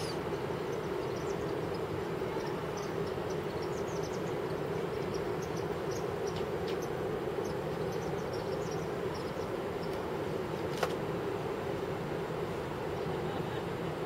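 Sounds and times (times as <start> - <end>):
insects chirping: 0.0 - 13.2
distant waterfall roar: 0.0 - 14.0.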